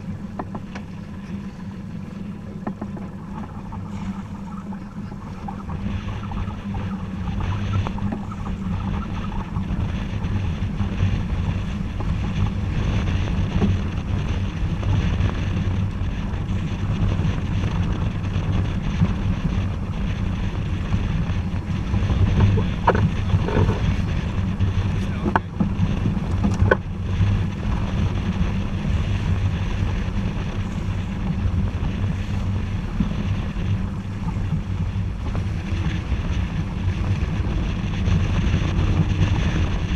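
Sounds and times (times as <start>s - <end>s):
steady low rumble: 0.0s - 39.9s
water rushing past hull: 0.0s - 39.9s
wind buffeting microphone: 0.0s - 39.9s.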